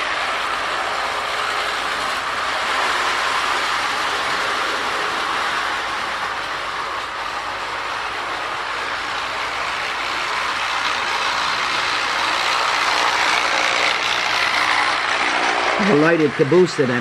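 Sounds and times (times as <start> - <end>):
toy train running on track: 0.0 - 17.0.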